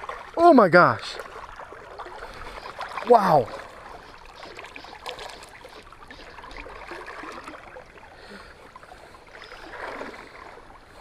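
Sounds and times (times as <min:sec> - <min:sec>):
river water rushing: 0:00.0 - 0:10.8
small water splashes: 0:00.0 - 0:11.0.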